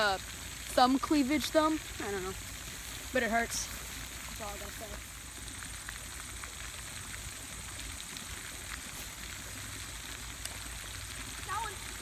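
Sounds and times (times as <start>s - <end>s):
even high hiss: 0.0s - 12.0s.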